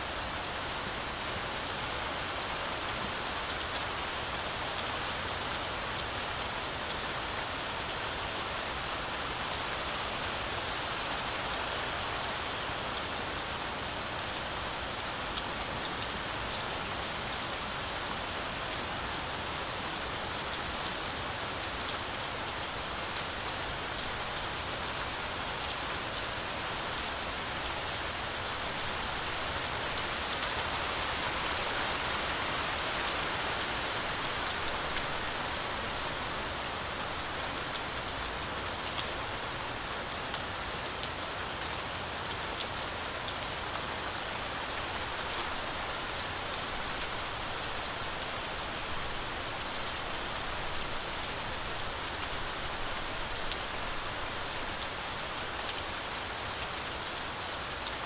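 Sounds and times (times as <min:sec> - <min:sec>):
heavy rain on forest canopy: 0:00.0 - 0:58.0.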